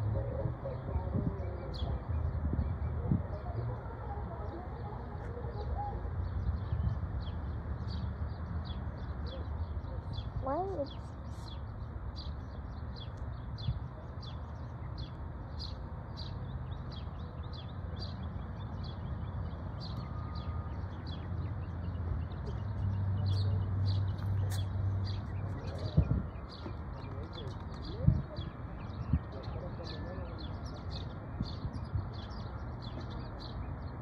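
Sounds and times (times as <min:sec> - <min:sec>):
small birds chirping: 0:00.2 - 0:34.0.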